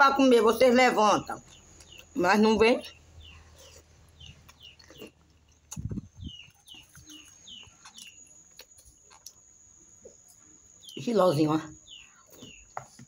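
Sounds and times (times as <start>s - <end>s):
small bird chirping: 0.5s - 13.0s.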